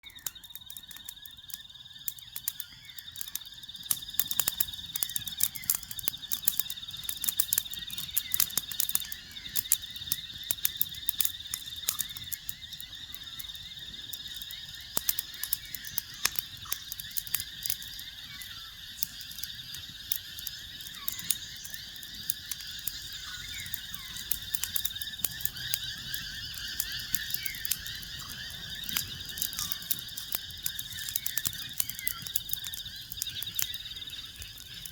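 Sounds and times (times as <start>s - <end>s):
frogs trilling and chirping: 0.0s - 34.9s
fire crackling: 0.1s - 34.9s.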